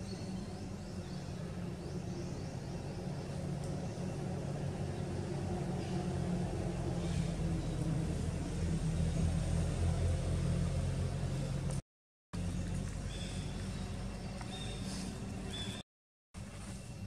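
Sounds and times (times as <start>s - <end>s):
vehicle engine rumbling: 0.0s - 11.8s, 12.4s - 15.8s.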